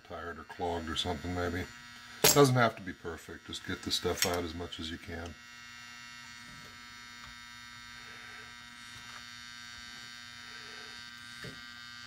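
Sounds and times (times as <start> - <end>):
soldering gun buzzing: 0.0 - 12.0.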